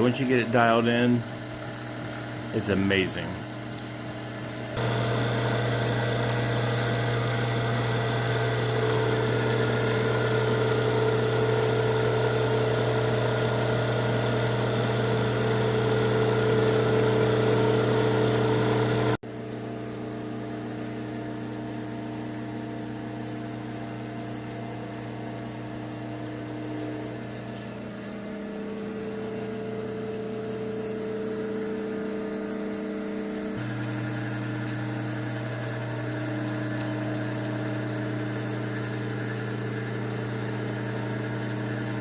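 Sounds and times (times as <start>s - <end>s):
electric motor humming: 0.0s - 19.2s, 21.8s - 42.0s.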